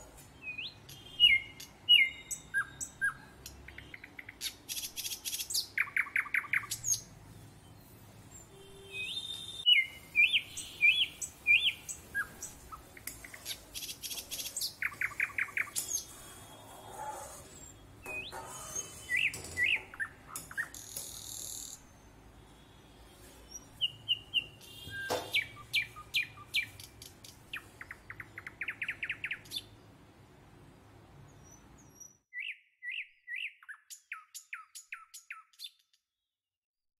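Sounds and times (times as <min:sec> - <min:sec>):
small birds chirping: 0:00.0 - 0:30.0, 0:30.8 - 0:36.1.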